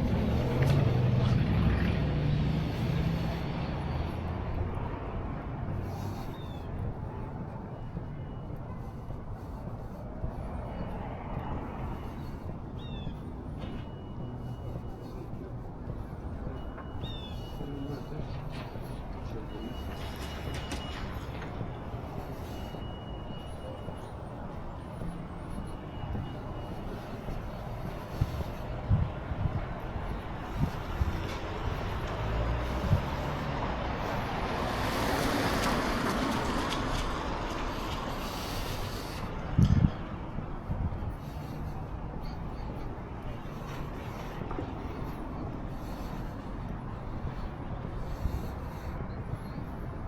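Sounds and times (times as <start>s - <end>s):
low rumble of traffic: 0.0s - 50.0s.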